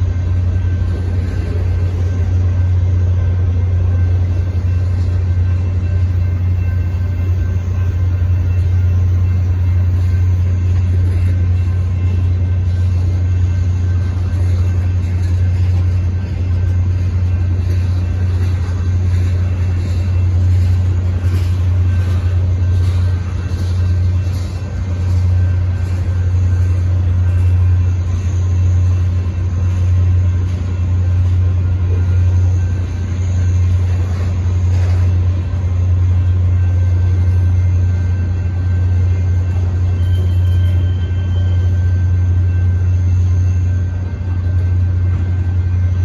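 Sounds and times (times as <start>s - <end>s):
freight train cars rolling past: 0.0s - 46.0s.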